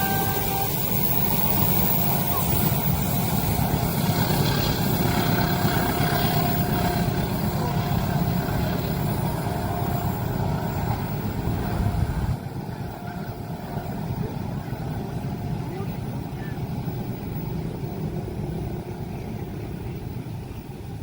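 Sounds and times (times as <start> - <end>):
thin steady whine: 0.0 - 21.0
train passing with low rumble: 0.0 - 21.0.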